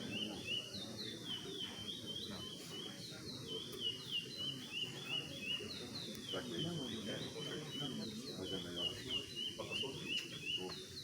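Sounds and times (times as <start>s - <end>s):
songbirds whistling: 0.0s - 11.0s.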